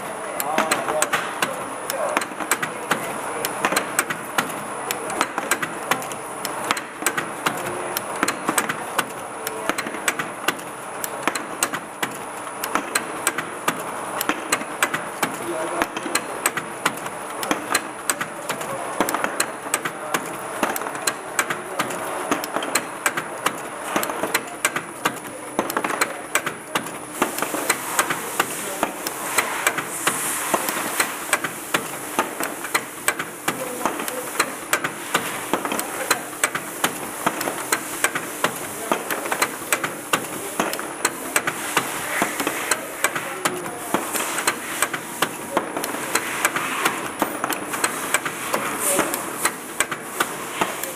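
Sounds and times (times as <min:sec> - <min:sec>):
bottle-capping machine clicking: 0:00.1 - 0:50.9.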